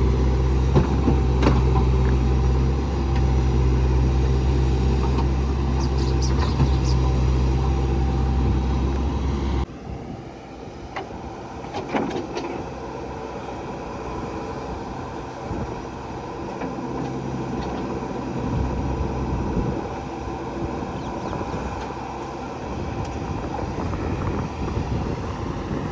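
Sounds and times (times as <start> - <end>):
diesel machinery engine running: 0.0 - 25.9.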